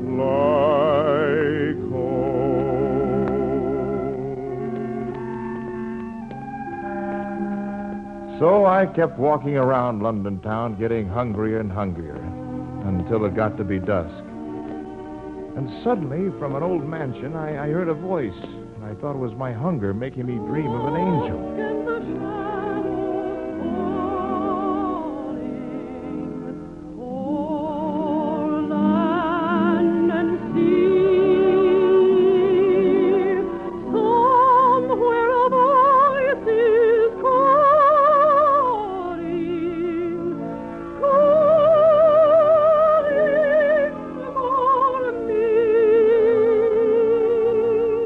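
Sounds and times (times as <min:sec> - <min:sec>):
soprano singing operatically: 0:00.0 - 0:06.9, 0:15.9 - 0:48.0
orchestra: 0:00.0 - 0:48.0.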